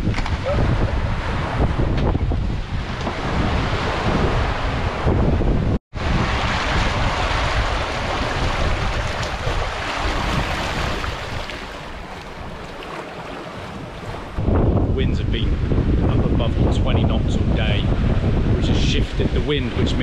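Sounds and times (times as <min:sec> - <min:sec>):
breaking churning sea: 0:00.0 - 0:20.0
wind buffeting microphone: 0:00.0 - 0:20.0.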